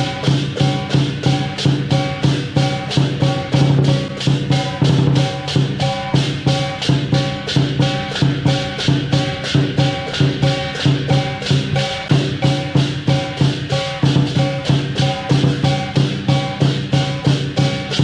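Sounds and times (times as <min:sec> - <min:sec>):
big drum: 0:00.0 - 0:18.0
cymbals clashing: 0:00.0 - 0:18.0
gong ringing: 0:00.0 - 0:18.0.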